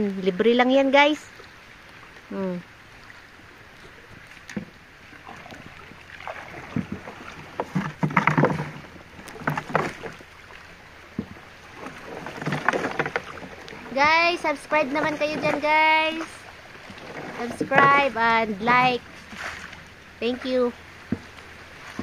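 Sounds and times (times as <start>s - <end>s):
water splashing against boat: 0.0s - 22.0s.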